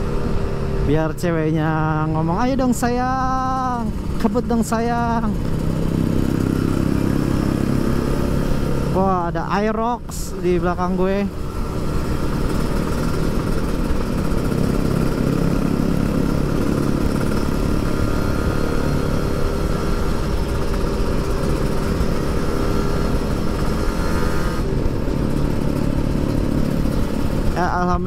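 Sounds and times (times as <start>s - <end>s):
two-stroke engine running: 0.0s - 28.0s.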